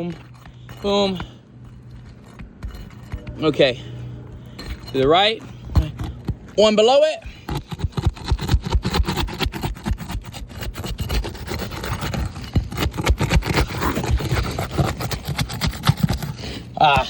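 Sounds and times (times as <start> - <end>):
roof shingles scraping and crackling: 0.0 - 16.5.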